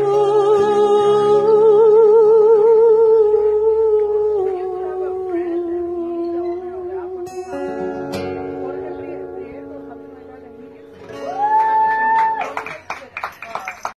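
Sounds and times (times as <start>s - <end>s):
acoustic guitar: 0.0s - 13.9s.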